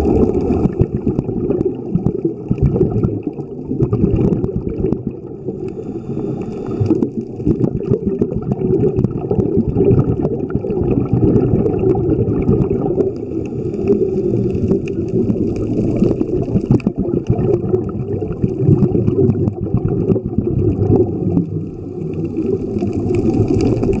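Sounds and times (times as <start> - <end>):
crackling clicks: 0.0 - 5.8, 6.4 - 9.3, 11.7 - 24.0
muffled underwater rumble: 0.0 - 24.0.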